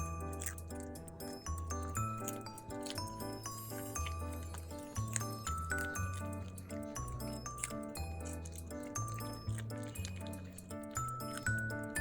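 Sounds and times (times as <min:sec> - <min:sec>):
light background music: 0:00.0 - 0:12.0.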